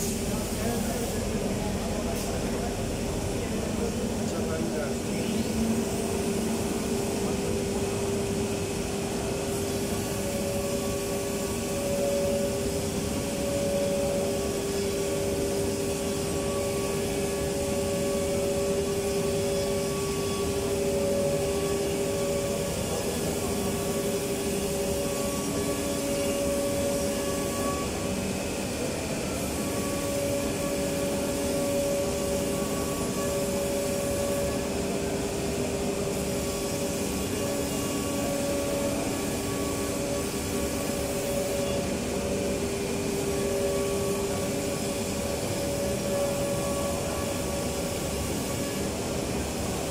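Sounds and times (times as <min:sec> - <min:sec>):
pulsing high whine: 0:00.0 - 0:49.9
woodworking machinery humming: 0:00.0 - 0:49.9.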